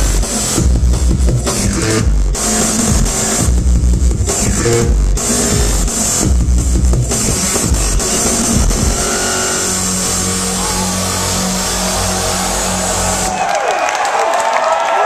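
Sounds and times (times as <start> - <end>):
heavy bass hits: 0.0 - 13.3
distorted low synth drone: 0.0 - 13.4.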